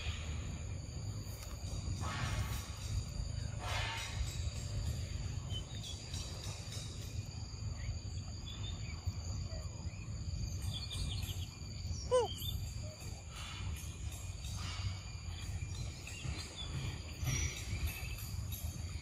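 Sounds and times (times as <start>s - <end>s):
faint bird chirps: 1.3s - 19.0s.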